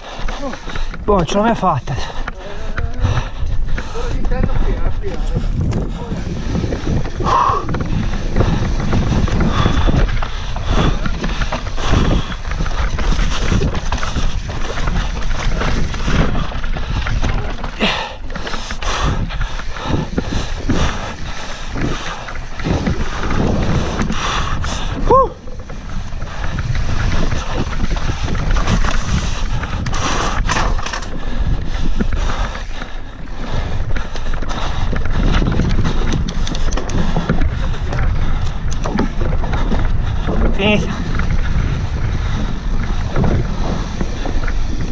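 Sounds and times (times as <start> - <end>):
bike knocking and rattling: 0.0 - 44.9
bike tyres rumbling on dirt: 0.0 - 44.9
wind buffeting microphone: 0.0 - 44.9.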